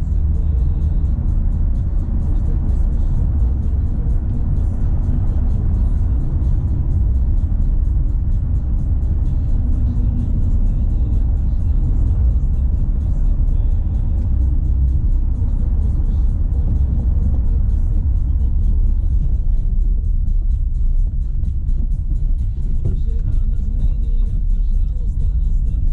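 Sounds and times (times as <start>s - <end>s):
car rumbling on dirt road: 0.0s - 25.9s
music playing: 0.0s - 25.9s.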